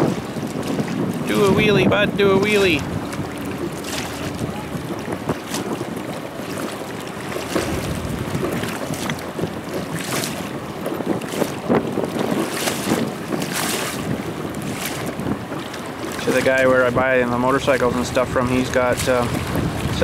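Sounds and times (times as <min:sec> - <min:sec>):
personal watercraft engine rumble: 0:00.0 - 0:20.0
wind gusting on microphone: 0:00.0 - 0:20.0.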